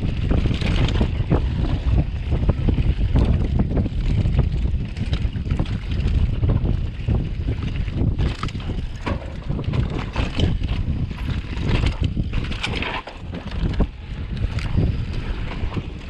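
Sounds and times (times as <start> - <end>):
bike clattering on rough trail: 0.0 - 16.0
bike tyres rumbling on ground: 0.0 - 16.0
wind on microphone: 0.0 - 16.0.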